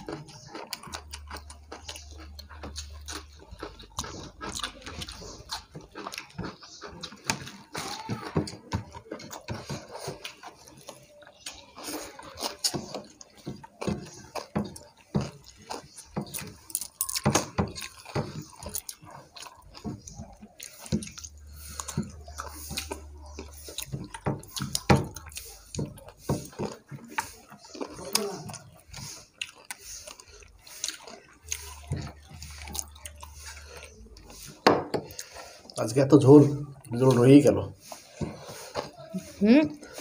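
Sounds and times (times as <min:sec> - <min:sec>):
chewing and mouth sounds: 0:00.0 - 0:40.0
wet squelching of food: 0:00.0 - 0:40.0.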